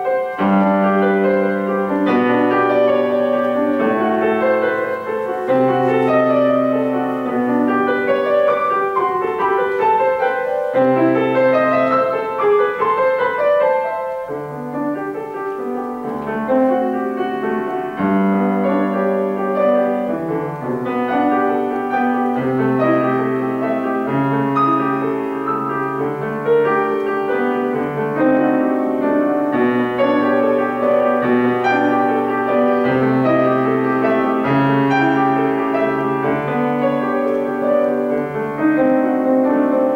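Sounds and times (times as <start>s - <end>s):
grand piano classical piece: 0.0s - 39.9s.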